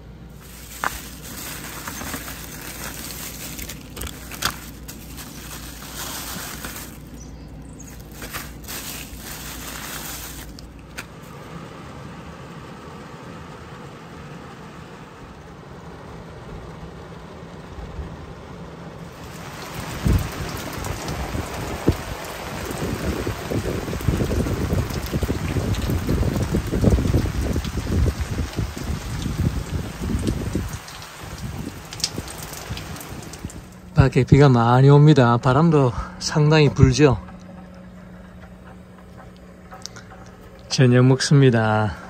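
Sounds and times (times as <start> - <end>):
rain and wind hiss: 0.0 - 34.4.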